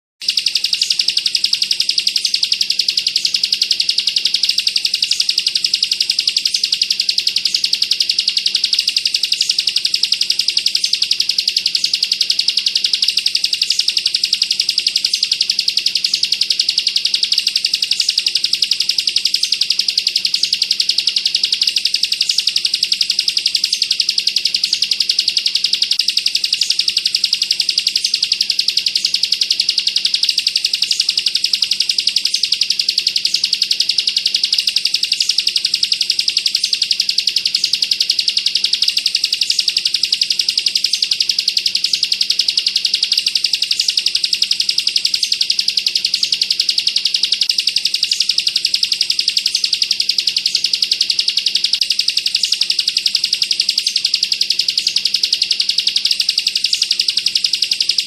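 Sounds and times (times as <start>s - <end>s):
bird singing rapid trill: 0.2s - 58.0s.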